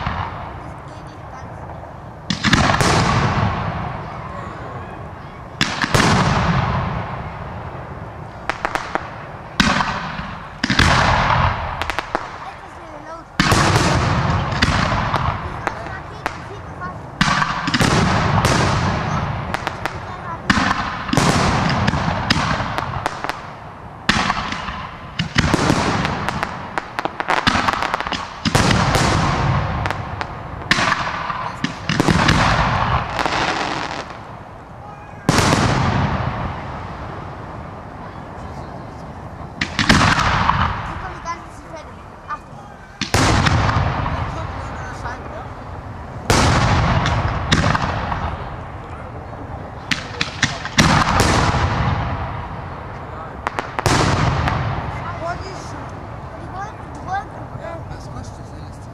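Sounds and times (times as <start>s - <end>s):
fireworks bangs: 0.0s - 58.9s
fireworks cracking: 0.0s - 58.9s
hissing crackle: 5.5s - 58.9s.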